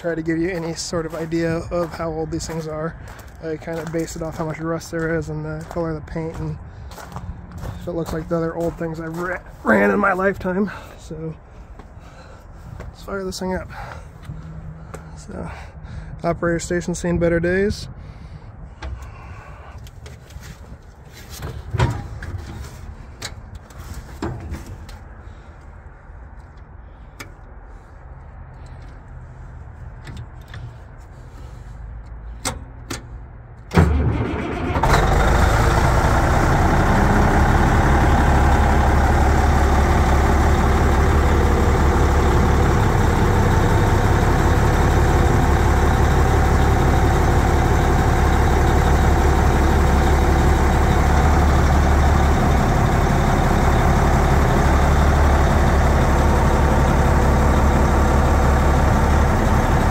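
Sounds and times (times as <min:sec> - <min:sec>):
diesel engine starting and running: 0:00.0 - 0:59.9.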